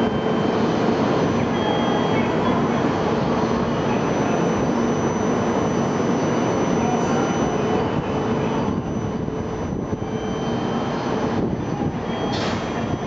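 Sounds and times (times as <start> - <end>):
faint steady tones: 0.0 - 13.0.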